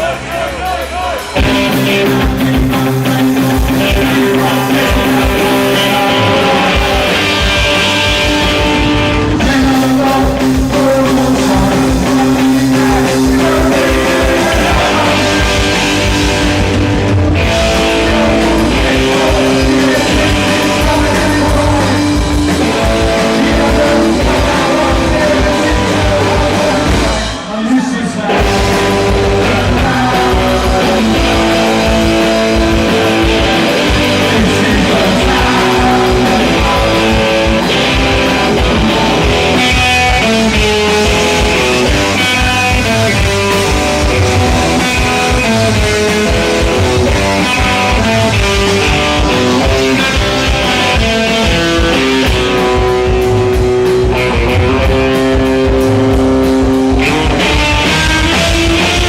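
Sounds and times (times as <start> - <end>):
electric guitar long notes: 0.0 - 59.0
punk rock band playing live: 0.0 - 59.0.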